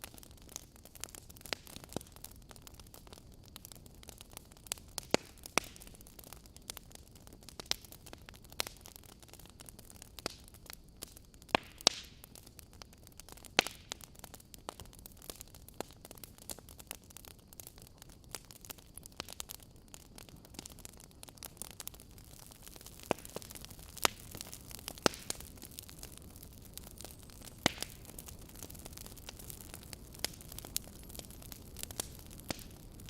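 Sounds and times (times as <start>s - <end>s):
burning logs hissing: 0.0s - 33.0s
wood fire crackling: 0.0s - 33.0s.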